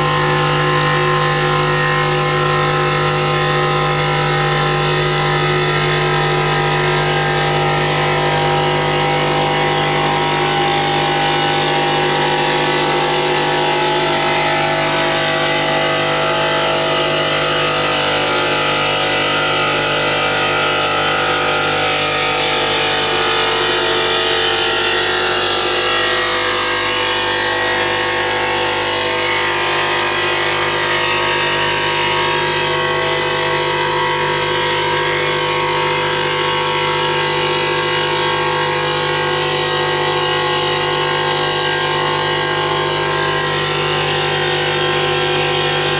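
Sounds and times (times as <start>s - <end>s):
polishing machine running: 0.0s - 45.9s.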